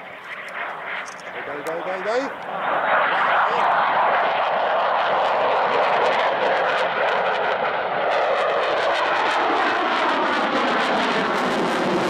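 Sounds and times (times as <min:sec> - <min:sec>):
fighter jet roar: 0:00.0 - 0:12.0.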